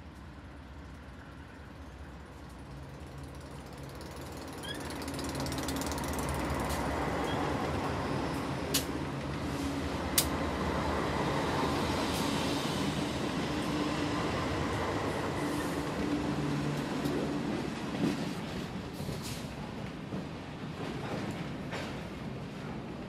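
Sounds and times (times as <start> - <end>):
train wheels rumbling on rail: 0.0 - 23.0
diesel locomotive engines running: 0.2 - 19.8.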